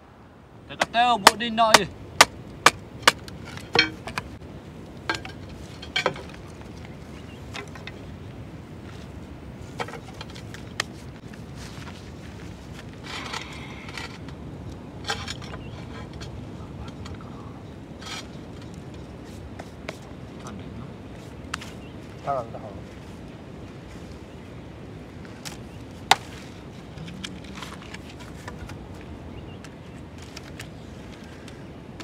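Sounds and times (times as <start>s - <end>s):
low background noise: 0.0s - 32.0s
rustling: 5.1s - 24.3s, 25.2s - 32.0s.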